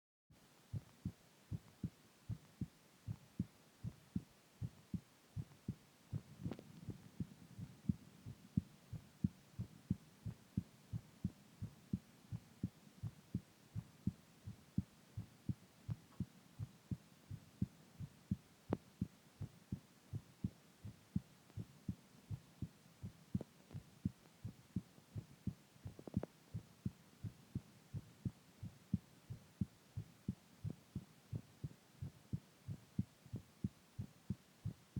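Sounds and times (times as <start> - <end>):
heartbeat thumps: 0.7 - 34.9.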